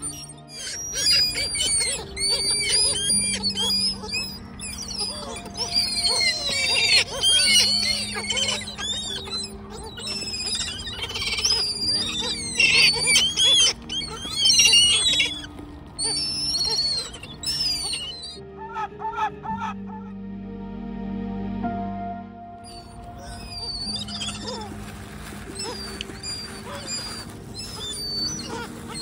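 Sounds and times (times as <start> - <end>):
gulls calling: 0.0 - 20.2, 22.6 - 29.0
background music with held notes: 0.0 - 29.0.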